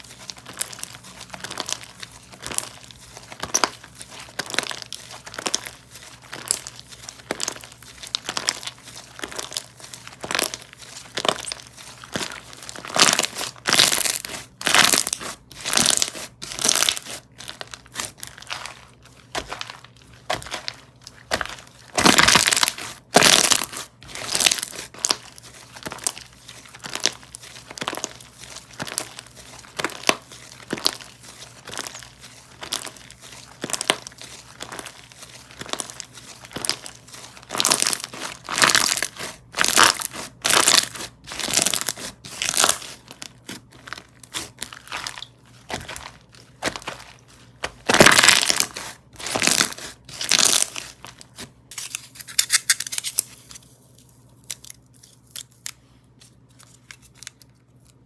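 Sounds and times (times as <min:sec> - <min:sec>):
crunchy slime crackling: 0:00.0 - 0:53.2.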